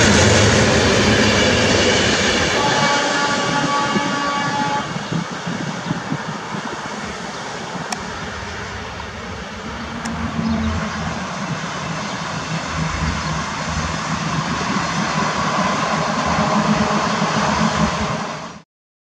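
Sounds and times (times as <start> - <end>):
electric train rumbling on rails: 0.0 - 18.6.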